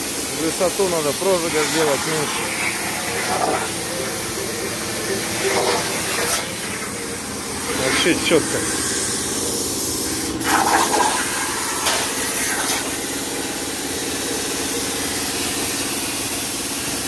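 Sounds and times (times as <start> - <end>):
plasma cutter hissing: 0.0 - 17.0.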